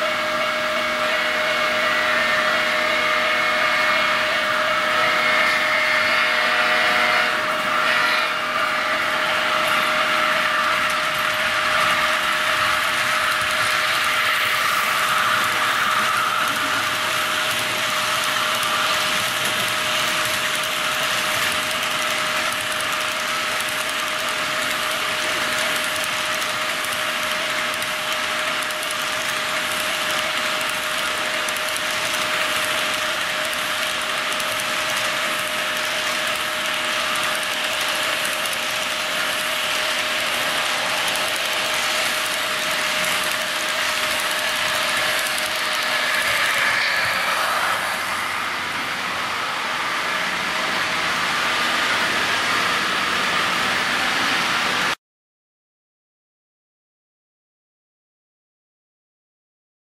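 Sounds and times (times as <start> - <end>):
model train wheels clicking on rails: 0.0 - 55.0
steady hum: 0.0 - 55.0.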